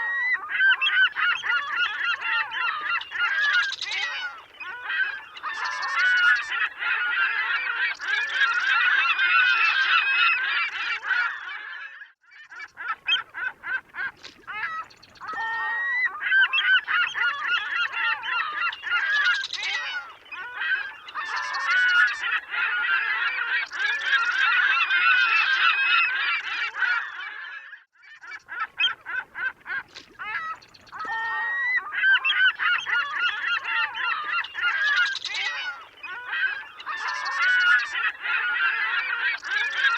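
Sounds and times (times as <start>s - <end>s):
seagulls calling: 0.0s - 39.9s.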